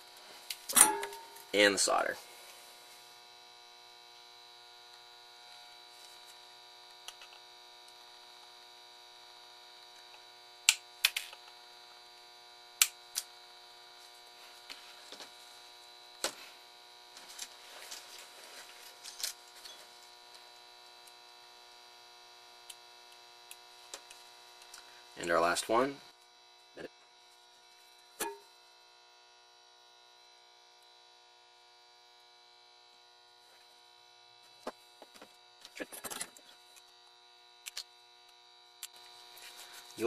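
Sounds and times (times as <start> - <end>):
electrical hum: 0.0 - 40.0.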